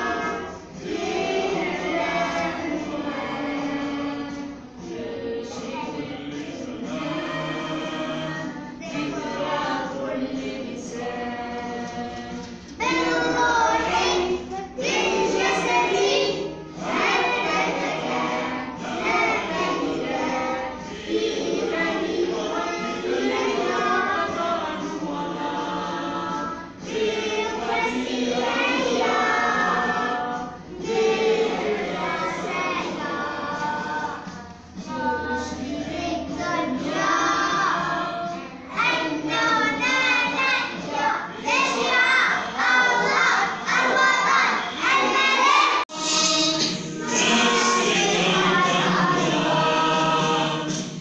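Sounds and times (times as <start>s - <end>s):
children singing an anthem: 0.0s - 51.0s.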